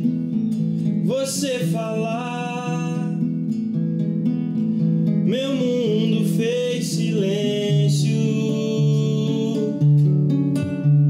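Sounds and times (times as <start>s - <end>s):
fingerpicked acoustic guitar: 0.0s - 11.0s.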